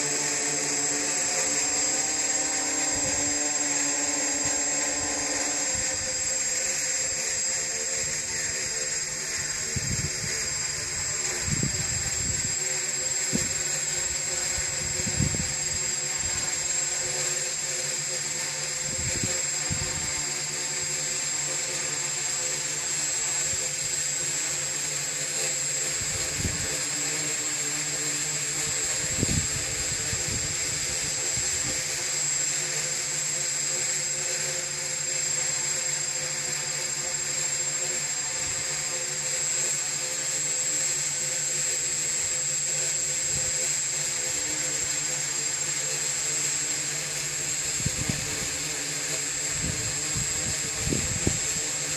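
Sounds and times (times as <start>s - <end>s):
drone propellers humming: 0.0s - 51.9s.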